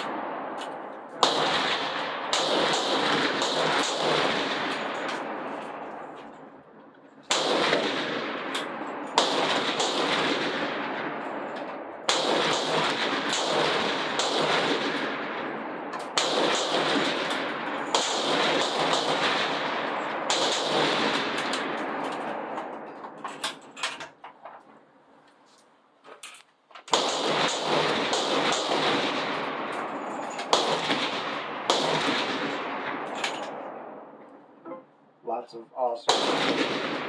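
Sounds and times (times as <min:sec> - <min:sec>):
rifle shots with rolling echo: 0:00.0 - 0:24.9, 0:26.8 - 0:34.6, 0:35.8 - 0:37.0.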